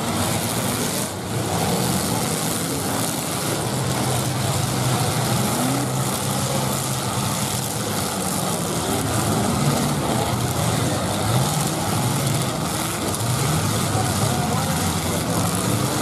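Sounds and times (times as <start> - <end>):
car engines idling and revving: 0.0 - 16.0.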